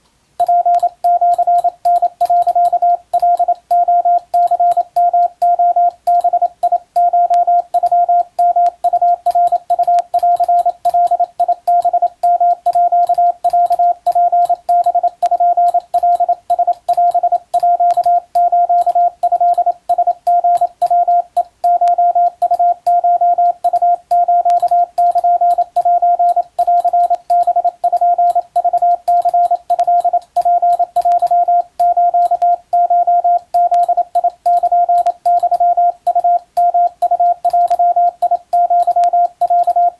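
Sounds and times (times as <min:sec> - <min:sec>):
keying clicks: 0:00.4 - 0:39.9
morse code beeps: 0:00.4 - 0:39.9.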